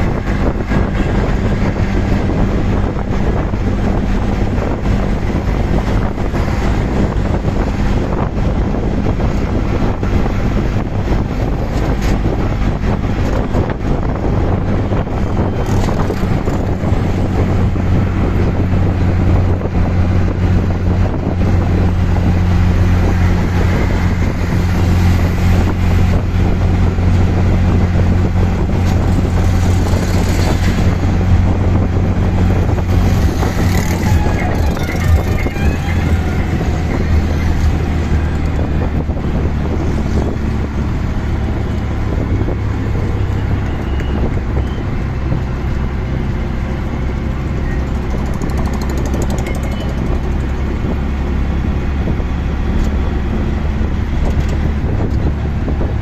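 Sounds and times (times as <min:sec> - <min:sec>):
auto-rickshaw engine running: 0:00.0 - 0:56.0
road noise: 0:00.0 - 0:56.0
wind on microphone: 0:00.0 - 0:56.0.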